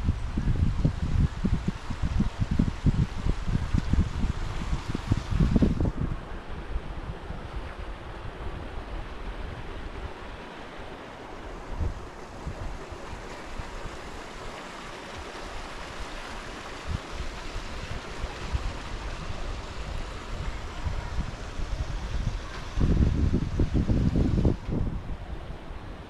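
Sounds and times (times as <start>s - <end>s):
flowing creek: 0.0s - 26.0s
wind buffeting microphone: 0.0s - 26.0s.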